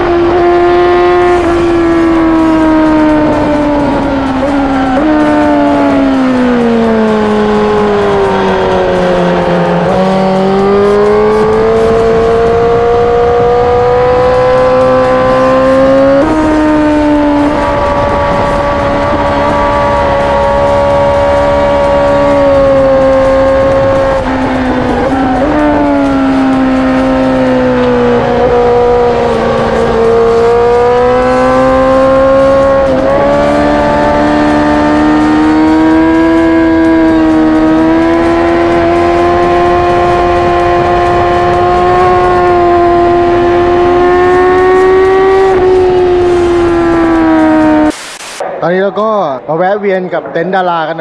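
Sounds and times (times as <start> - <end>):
motorcycle engine running hard: 0.0 - 48.1.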